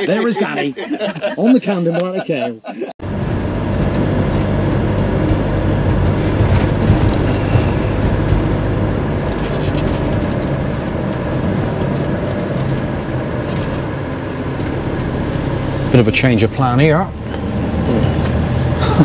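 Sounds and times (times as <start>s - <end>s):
diesel engine and road noise: 0.0s - 19.0s.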